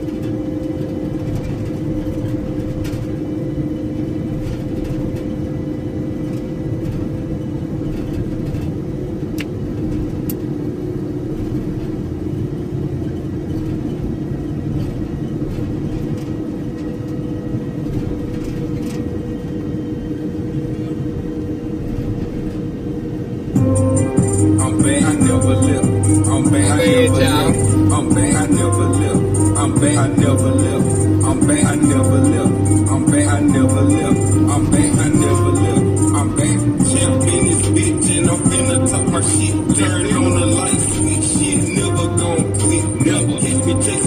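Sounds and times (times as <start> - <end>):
road and engine rumble: 0.0 - 44.0.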